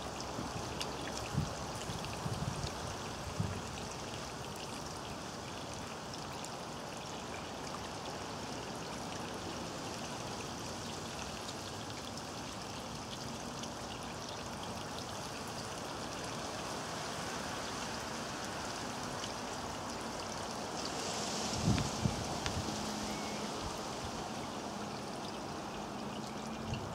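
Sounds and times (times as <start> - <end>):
water trickling in a pond: 0.0 - 26.9.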